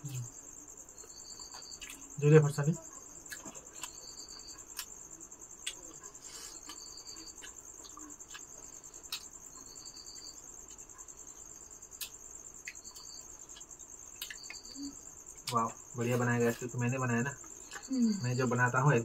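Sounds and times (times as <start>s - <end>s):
crickets trilling: 0.0s - 19.0s
lower insect call: 0.0s - 19.0s.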